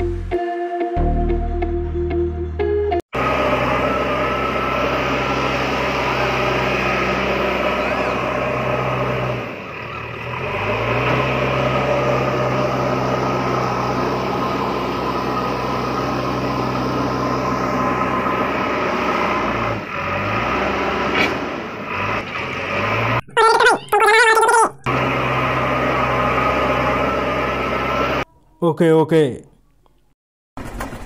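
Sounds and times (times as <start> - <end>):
small tractor motor humming: 3.2 - 28.3.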